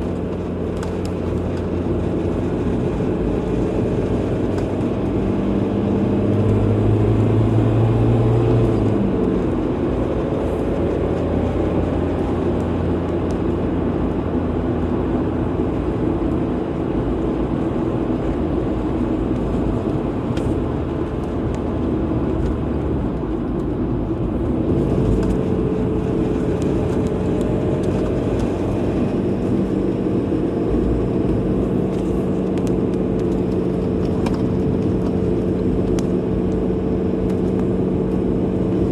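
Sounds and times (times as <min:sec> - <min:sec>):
car engine hum: 0:00.0 - 0:38.9
tyre and road noise: 0:00.0 - 0:38.9.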